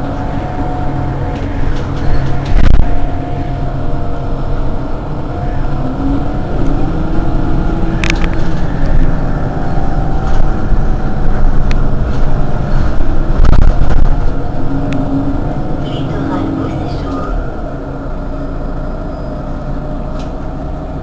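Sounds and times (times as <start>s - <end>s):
diesel bus engine idling: 0.0s - 21.0s.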